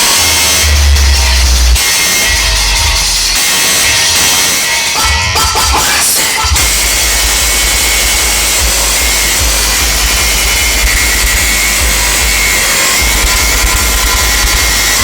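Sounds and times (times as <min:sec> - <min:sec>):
distorted music with pulsing bass: 0:00.0 - 0:15.0.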